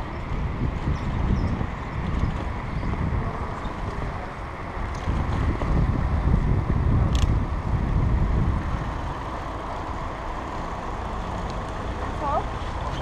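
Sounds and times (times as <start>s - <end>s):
bicycle rumbling over street: 0.0s - 13.0s
nearby traffic: 0.0s - 13.0s
wind buffeting microphone: 0.0s - 13.0s.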